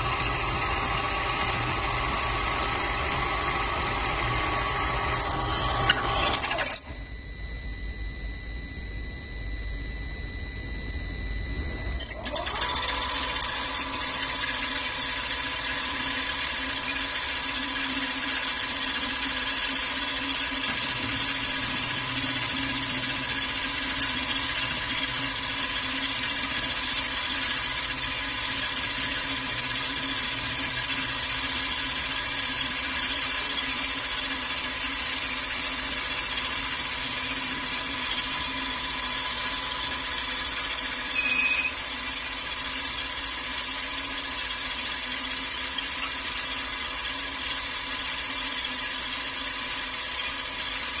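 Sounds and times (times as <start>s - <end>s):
lathe spindle motor whining: 0.0s - 7.4s, 11.3s - 51.0s.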